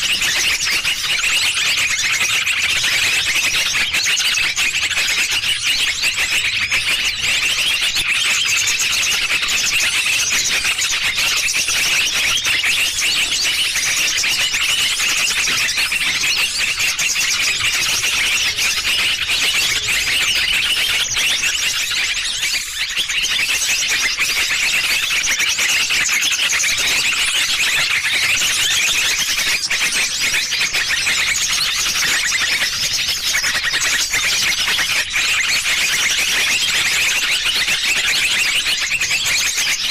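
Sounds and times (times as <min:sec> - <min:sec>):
shrill bird chirps: 0:00.0 - 0:39.9.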